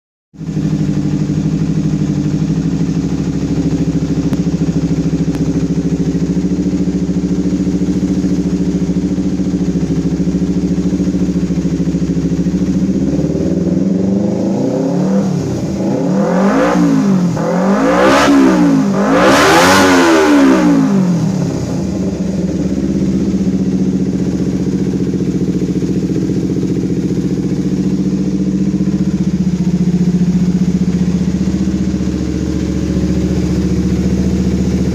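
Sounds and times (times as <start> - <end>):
engine exhaust idling and revving: 0.3 - 34.9.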